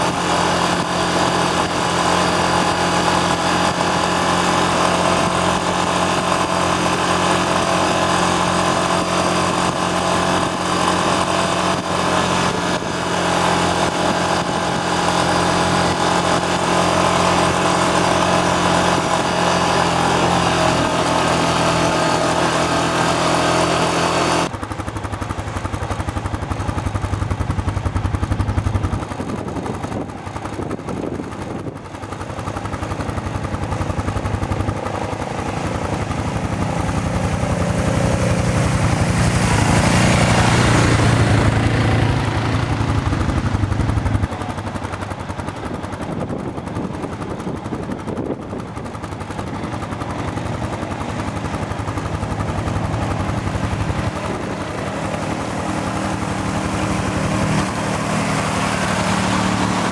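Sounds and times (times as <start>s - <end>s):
atv engine running: 0.0s - 59.9s
gravel road rumble: 0.0s - 59.9s
low pulsing engine throb: 0.0s - 59.9s
wind: 0.0s - 59.9s.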